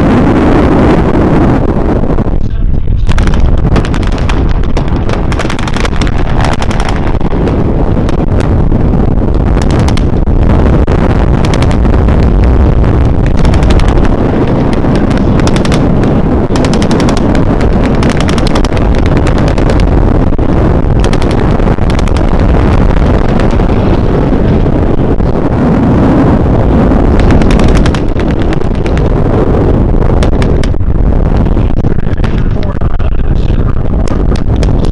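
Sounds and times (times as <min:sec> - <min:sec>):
propeller plane engine: 0:00.0 - 0:34.9
pyrotechnic bangs and explosions: 0:00.0 - 0:34.9.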